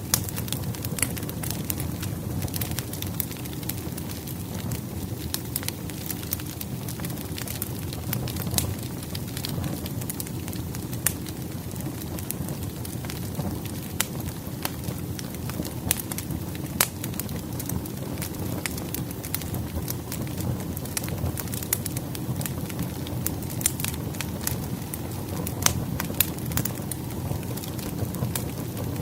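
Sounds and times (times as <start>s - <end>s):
fire flames rushing: 0.0s - 29.0s
logs crackling and popping: 0.0s - 29.0s.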